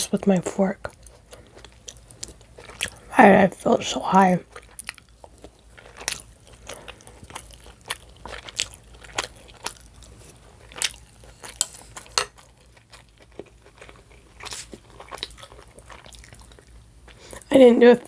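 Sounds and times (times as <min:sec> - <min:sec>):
wet chewing and crunching: 0:00.0 - 0:18.0.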